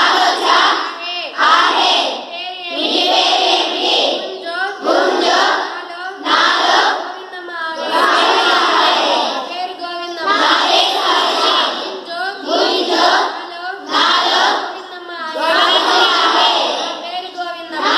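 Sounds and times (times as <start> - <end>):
girls chanting in unison: 0.0 - 17.9.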